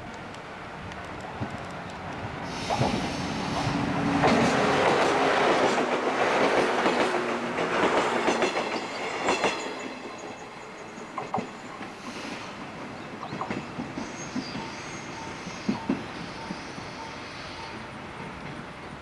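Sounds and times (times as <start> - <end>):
train wheels clacking: 1.1 - 19.0.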